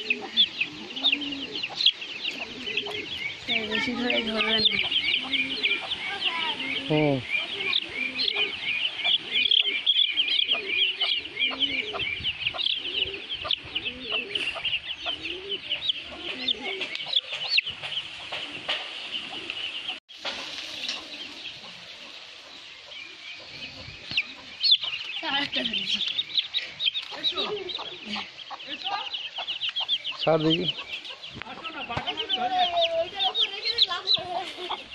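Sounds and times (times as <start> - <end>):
chick peeping: 0.0 - 34.9.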